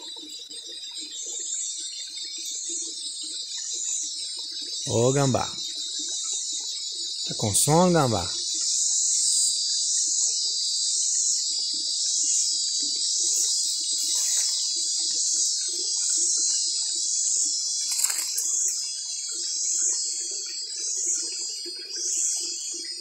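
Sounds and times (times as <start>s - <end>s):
cicadas chorus: 0.0s - 23.0s.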